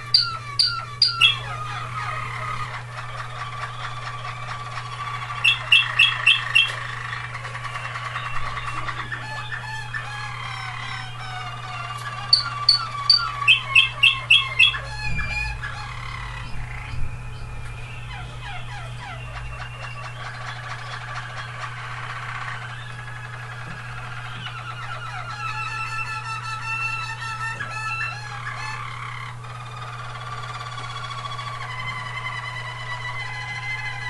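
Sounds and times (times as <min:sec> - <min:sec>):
canaries singing: 0:00.0 - 0:34.0
loud ringing bird notes: 0:00.0 - 0:34.0.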